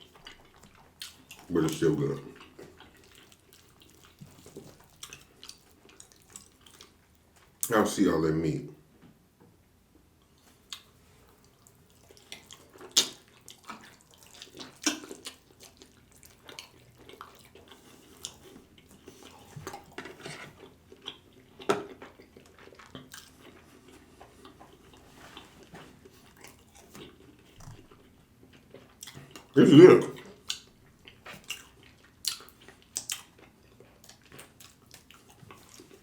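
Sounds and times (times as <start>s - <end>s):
wet chewing and lip smacks: 0.0s - 7.7s, 10.2s - 36.0s.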